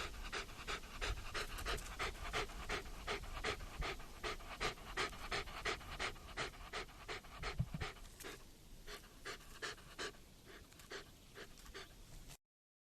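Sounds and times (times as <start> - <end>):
puppy panting rapidly: 0.0 - 12.0.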